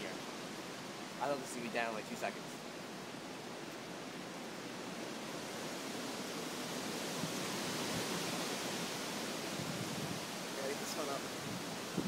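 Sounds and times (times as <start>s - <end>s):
strong wind through trees: 0.0s - 12.0s.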